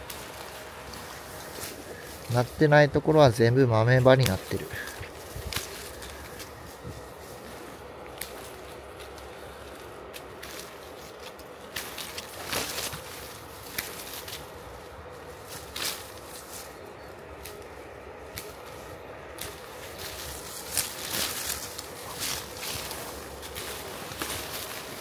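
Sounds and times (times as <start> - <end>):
pruning shears snipping branches: 0.0 - 2.6, 4.0 - 25.0.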